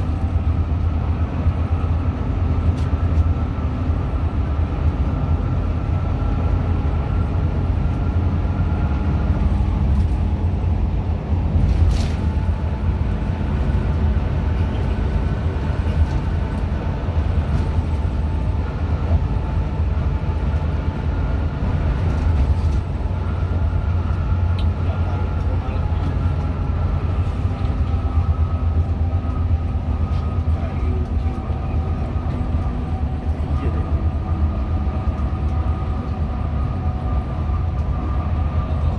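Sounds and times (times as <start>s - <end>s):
diesel coach engine rumble: 0.0s - 38.9s.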